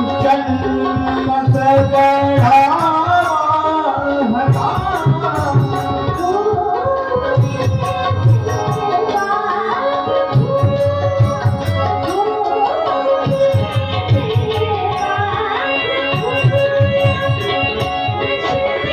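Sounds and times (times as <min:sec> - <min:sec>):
sustained accompanying melody: 0:00.0 - 0:18.9
tabla playing a steady rhythm: 0:00.0 - 0:18.9.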